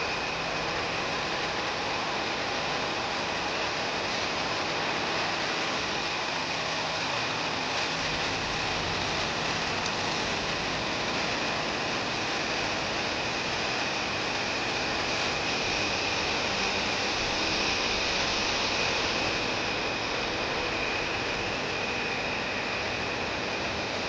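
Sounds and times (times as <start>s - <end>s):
faint high whine: 0.0s - 24.0s
steady hiss: 0.0s - 24.0s.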